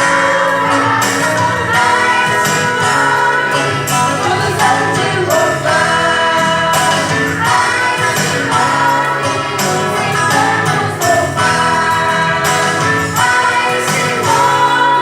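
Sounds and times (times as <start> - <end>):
choir singing: 0.0 - 15.0
instrumental accompaniment: 0.0 - 15.0.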